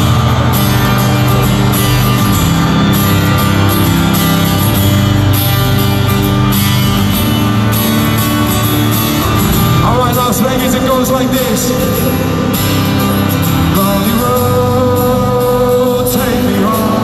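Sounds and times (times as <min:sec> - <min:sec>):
live band playing country-rock: 0:00.0 - 0:17.0.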